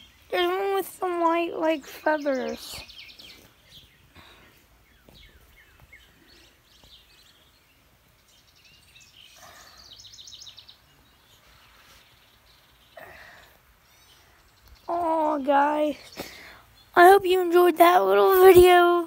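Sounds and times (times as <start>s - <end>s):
faint bird chirps: 0.0s - 17.3s
outdoor background noise: 0.0s - 19.0s.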